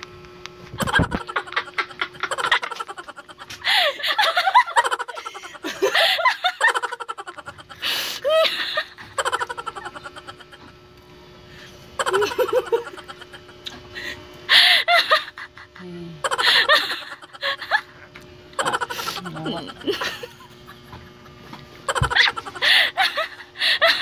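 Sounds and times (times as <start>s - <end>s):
person giggling and laughing: 0.8s - 10.8s, 12.0s - 24.0s.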